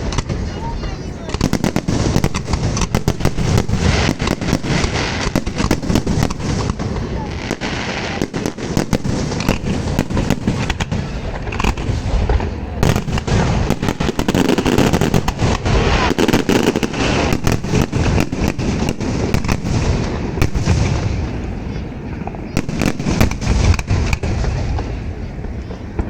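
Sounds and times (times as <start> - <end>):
fireworks bangs and crackles: 0.0 - 26.0
rolling rumble of booms: 0.0 - 26.0.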